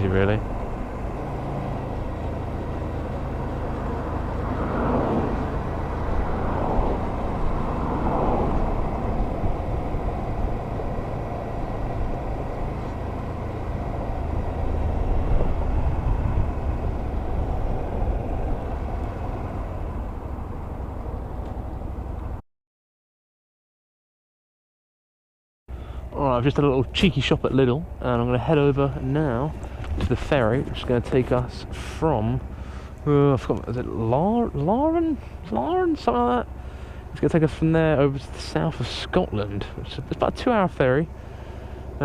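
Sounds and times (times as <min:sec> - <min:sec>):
road noise: 0:00.0 - 0:22.4, 0:25.7 - 0:42.0
vehicle engine running: 0:00.0 - 0:22.4, 0:25.7 - 0:42.0.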